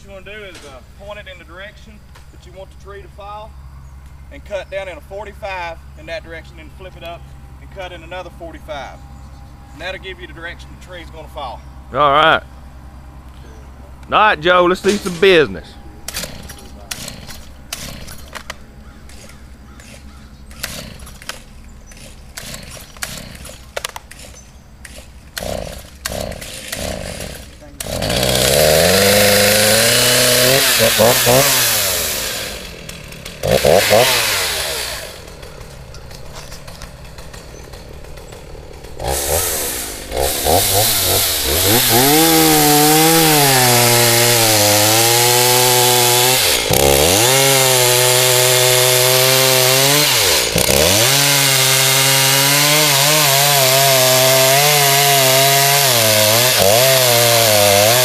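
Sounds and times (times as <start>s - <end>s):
chainsaw cutting: 9.7s - 58.0s.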